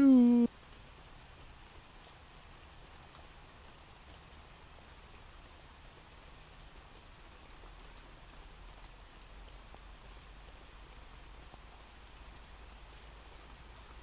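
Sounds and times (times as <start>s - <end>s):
rain hiss: 0.0s - 14.0s
raindrop ticks: 0.1s - 14.0s.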